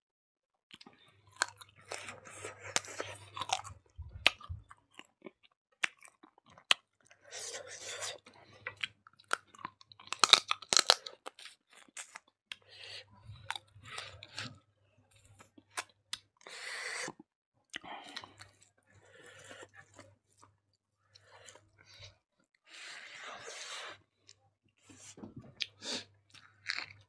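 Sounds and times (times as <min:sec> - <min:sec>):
chewing food: 0:00.7 - 0:27.0.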